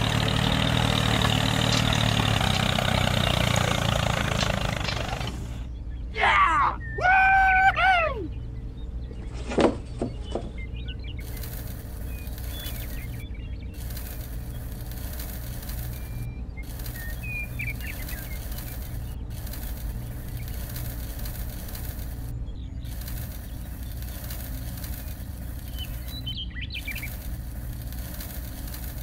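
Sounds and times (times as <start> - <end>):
birds chirping: 0.0 - 29.0
steady low rumble and hiss: 5.4 - 29.0.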